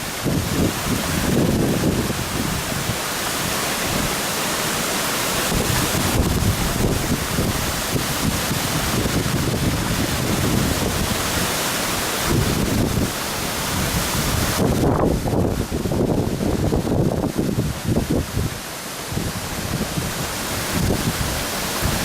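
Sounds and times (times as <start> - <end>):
wind buffeting microphone: 0.0 - 3.0, 5.5 - 11.6, 12.2 - 22.0
water rushing over dam: 0.0 - 22.0.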